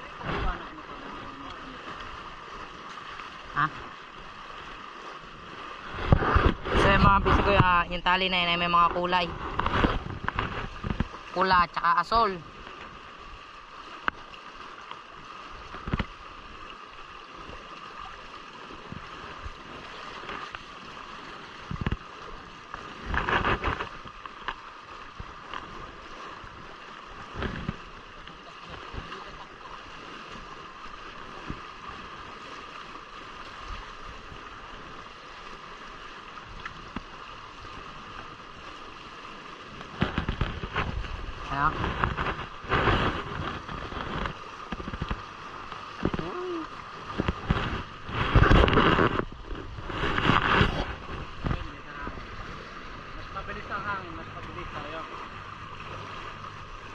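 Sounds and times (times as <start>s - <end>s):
water splashing along hulls: 0.0s - 56.9s.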